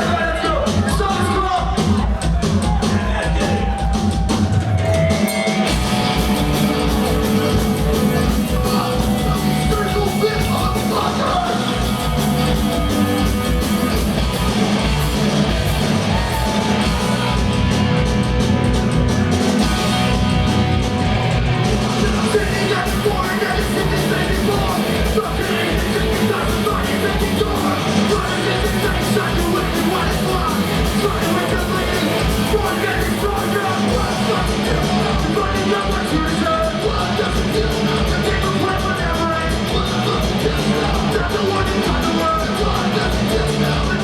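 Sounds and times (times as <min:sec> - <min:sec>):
bass guitar: 0:00.0 - 0:44.0
distorted electric guitars: 0:00.0 - 0:44.0
drum kit: 0:00.0 - 0:44.0
shouted vocals: 0:00.0 - 0:44.0.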